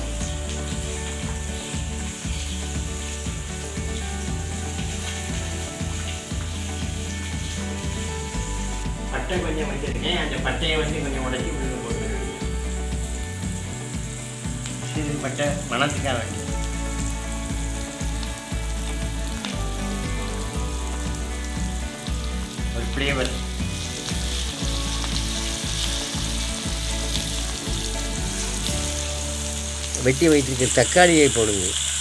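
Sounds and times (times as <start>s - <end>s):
onions sizzling in oil: 0.0s - 32.0s.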